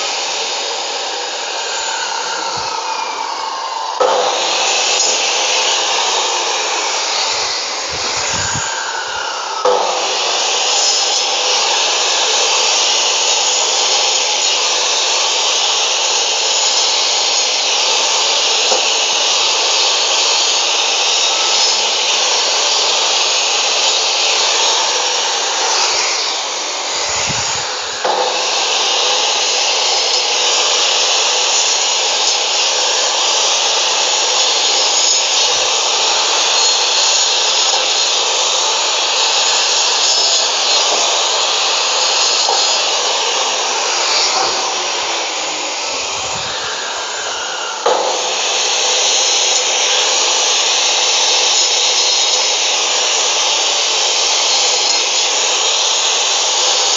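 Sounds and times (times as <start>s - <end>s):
saw cutting through bone: 0.0s - 56.9s.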